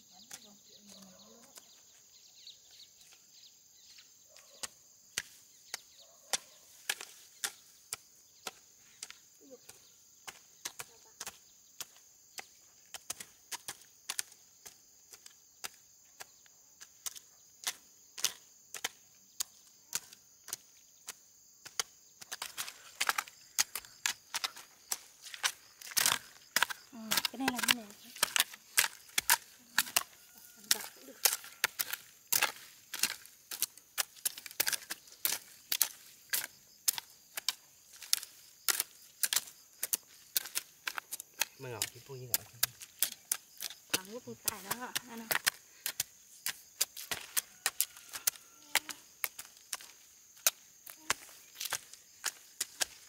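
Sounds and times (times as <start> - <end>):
insects buzzing: 0.0 - 53.0.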